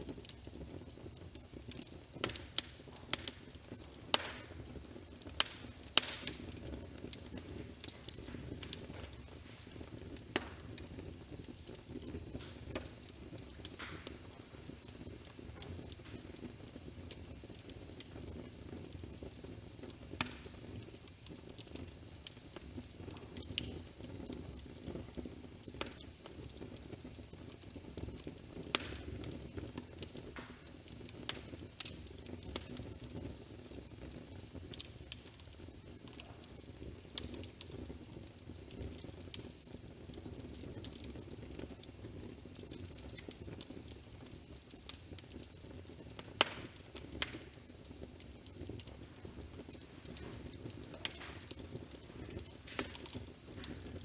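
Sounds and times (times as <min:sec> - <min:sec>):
fireplace crackling and popping: 0:00.0 - 0:54.0.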